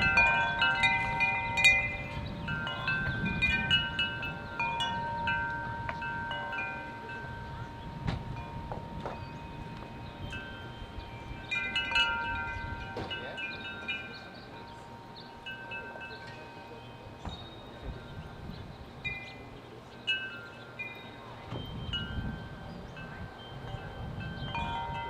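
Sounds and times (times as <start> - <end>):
metal wind chimes ringing: 0.0 - 25.0.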